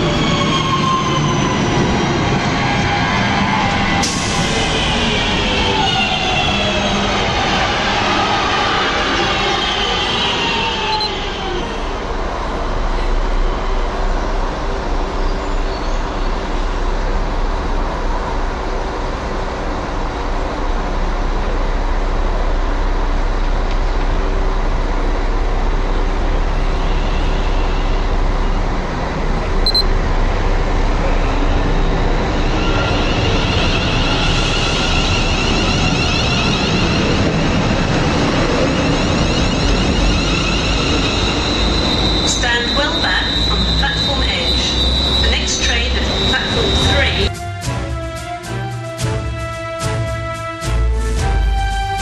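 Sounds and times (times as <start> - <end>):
train and track rumble: 0.0 - 52.0.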